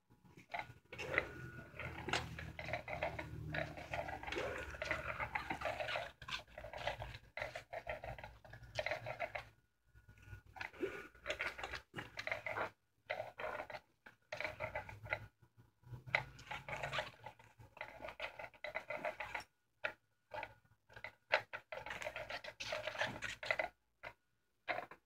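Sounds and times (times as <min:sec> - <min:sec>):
toy ball whirring and rattling: 0:00.4 - 0:09.6, 0:10.5 - 0:15.3, 0:16.0 - 0:25.0.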